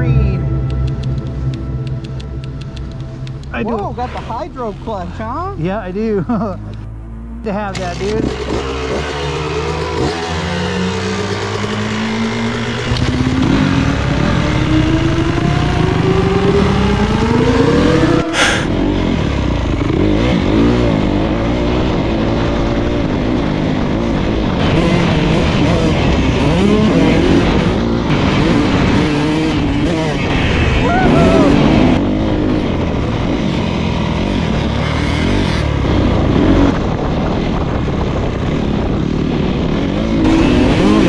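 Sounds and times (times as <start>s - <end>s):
four-stroke motorcycle engine revving: 5.2s - 30.8s, 31.4s - 41.0s
two-stroke motorcycle engine revving: 5.2s - 30.8s, 31.4s - 41.0s.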